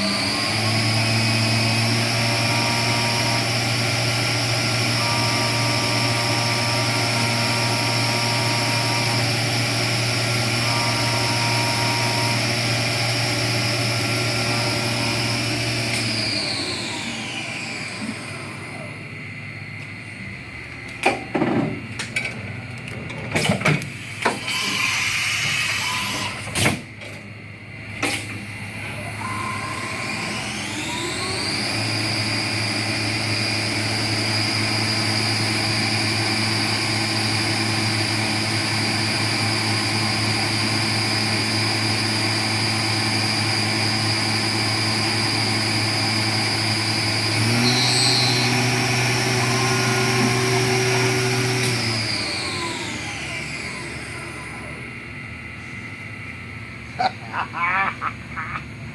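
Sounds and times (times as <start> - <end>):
high spindle whine: 0.0 - 22.4, 23.8 - 26.6, 28.5 - 57.0.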